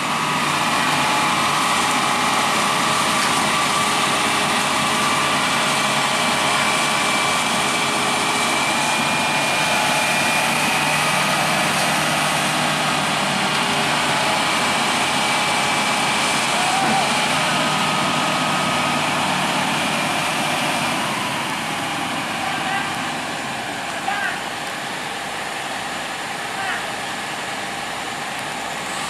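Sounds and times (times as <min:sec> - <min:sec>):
excavator diesel engines running: 0:00.0 - 0:29.0.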